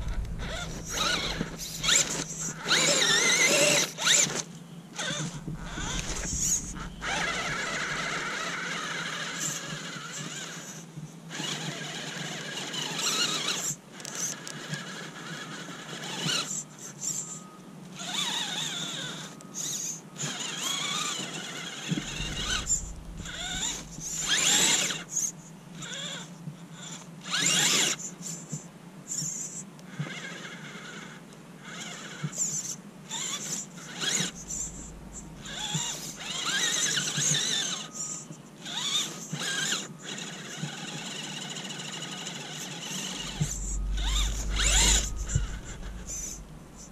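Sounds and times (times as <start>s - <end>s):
rc car motor and gears whining: 0.0s - 46.9s.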